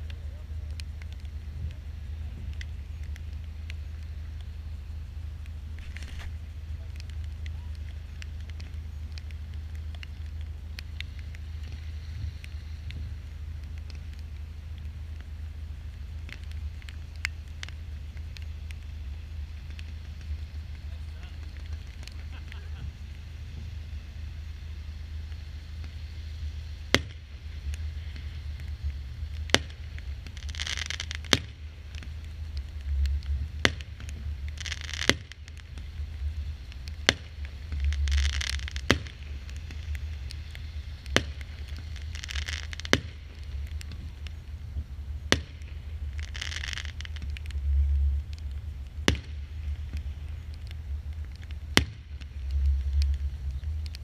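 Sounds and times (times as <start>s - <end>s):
fireworks bangs: 0.0s - 26.0s, 26.8s - 54.0s
hissing crackle: 0.0s - 54.0s
low rumble: 0.0s - 54.0s.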